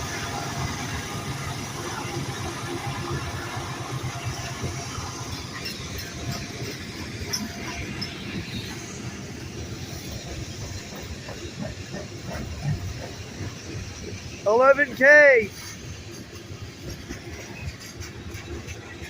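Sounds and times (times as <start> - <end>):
diesel locomotives droning: 0.0 - 19.0
rattling wheel and rail noise: 0.0 - 19.0.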